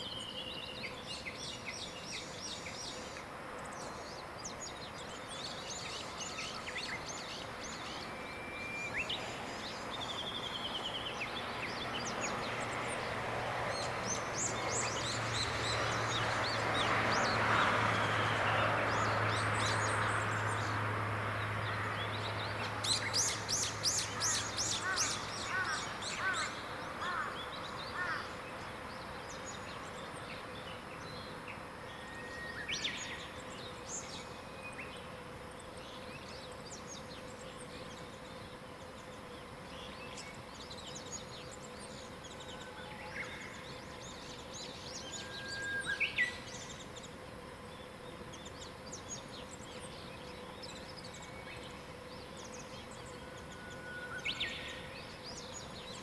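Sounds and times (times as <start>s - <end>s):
birds singing and calling: 0.0s - 20.8s, 21.4s - 56.0s
distant engine hum: 0.1s - 56.0s.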